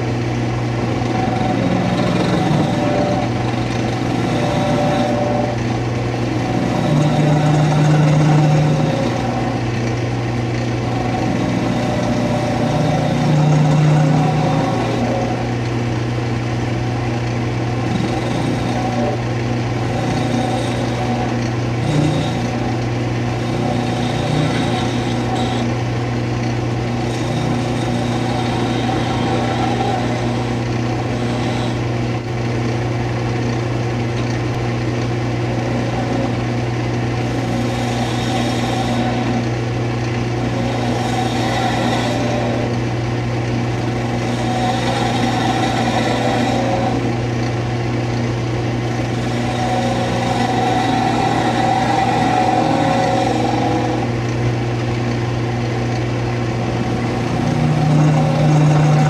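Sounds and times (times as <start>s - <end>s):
chisel scraping spinning wood: 0.0s - 59.0s
wood lathe motor humming: 0.0s - 59.0s.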